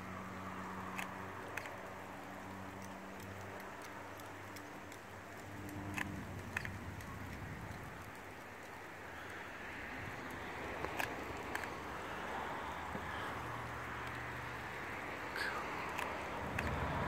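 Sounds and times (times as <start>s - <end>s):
sharp ticks: 0.5s - 17.0s.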